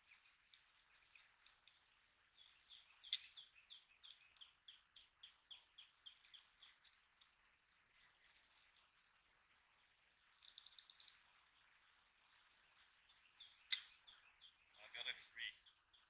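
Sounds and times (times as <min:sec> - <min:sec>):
faint bird song: 0:00.0 - 0:16.0.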